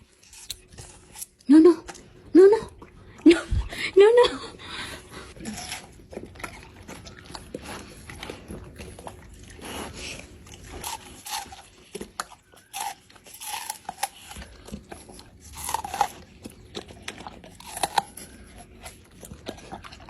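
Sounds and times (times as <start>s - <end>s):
dog chewing watermelon: 0.0s - 20.0s.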